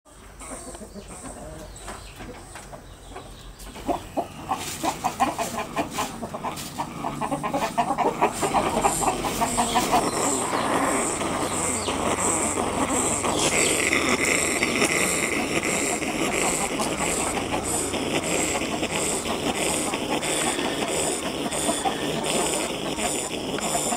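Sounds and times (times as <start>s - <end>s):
chickens clucking: 0.1s - 23.9s.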